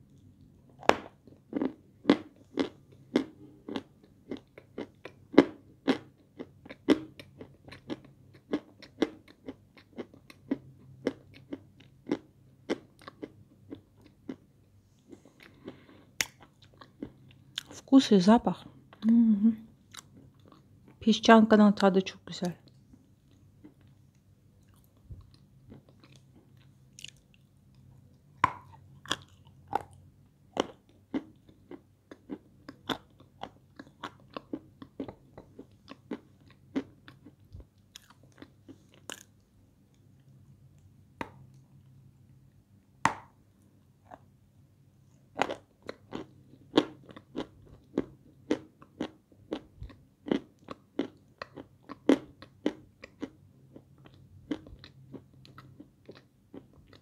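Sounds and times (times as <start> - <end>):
crunching and chewing: 0.0 - 17.8, 19.9 - 21.0, 22.6 - 41.9, 45.3 - 57.0.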